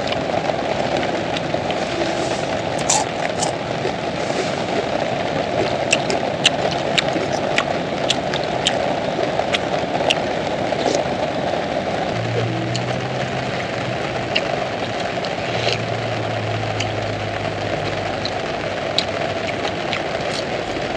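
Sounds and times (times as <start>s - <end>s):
heavy rain on a tent: 0.0s - 20.9s.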